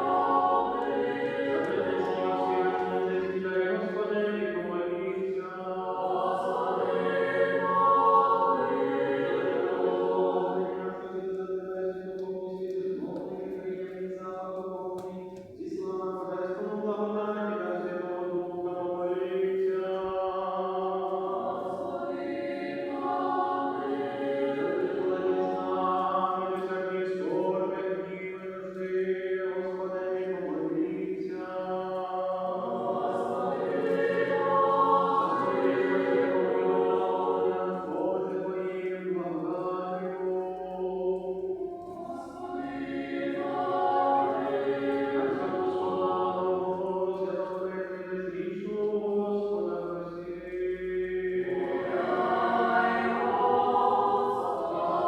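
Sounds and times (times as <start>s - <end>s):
choir chanting a cappella: 0.0s - 55.0s.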